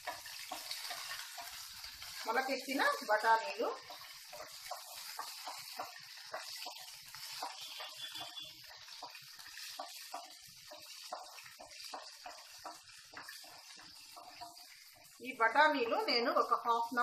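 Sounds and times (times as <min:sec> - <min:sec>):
spatula scraping and tapping: 0:00.0 - 0:16.7
food sizzling in oil: 0:00.0 - 0:17.0.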